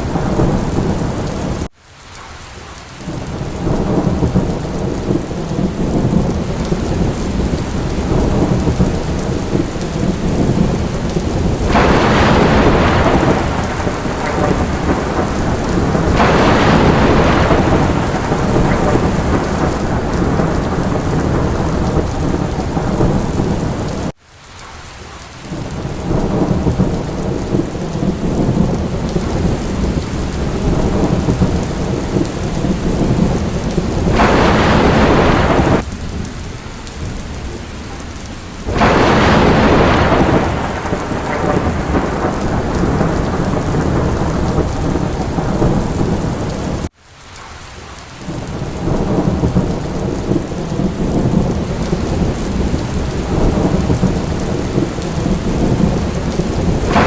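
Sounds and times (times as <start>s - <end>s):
low rolling thunder: 0.0s - 1.7s, 3.0s - 24.1s, 25.5s - 46.9s, 48.3s - 57.0s
rain falling: 0.0s - 57.0s.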